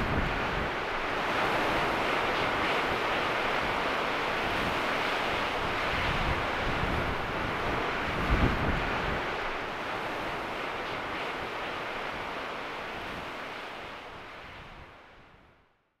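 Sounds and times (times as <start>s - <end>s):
wind gusts hitting microphone: 0.0s - 15.5s
rushing wind: 0.0s - 15.6s.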